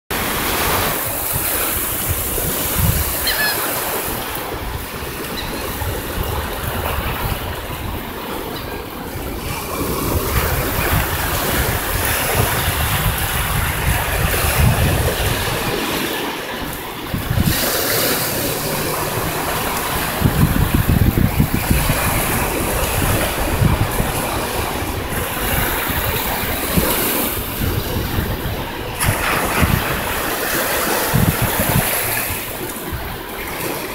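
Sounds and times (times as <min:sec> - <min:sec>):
surf waves washing up beach: 0:00.1 - 0:33.9
wind gusting on microphone: 0:00.1 - 0:33.9.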